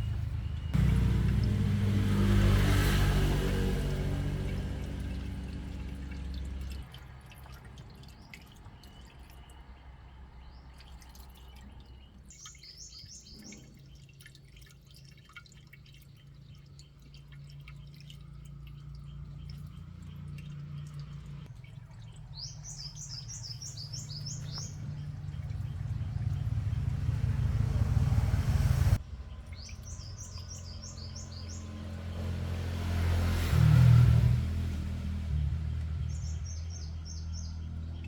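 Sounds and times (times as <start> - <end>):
low engine hum: 0.0 - 12.3, 16.8 - 38.0.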